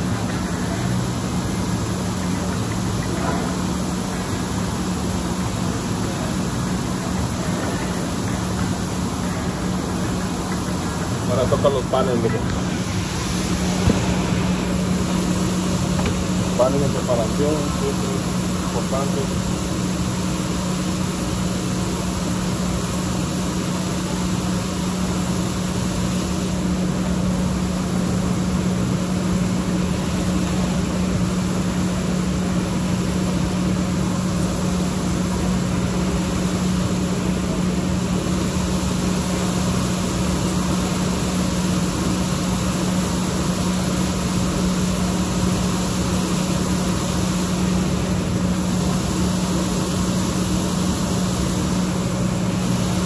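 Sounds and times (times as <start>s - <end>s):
machine humming: 0.0s - 53.0s.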